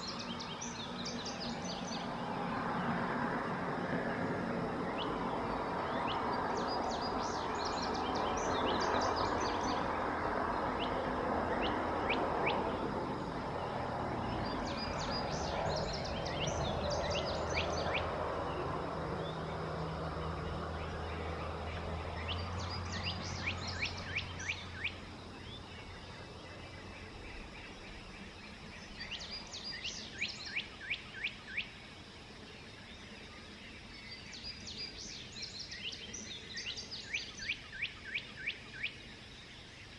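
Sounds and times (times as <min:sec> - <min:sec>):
songbird singing descending notes: 0:00.0 - 0:02.6, 0:04.8 - 0:31.8, 0:33.8 - 0:39.8.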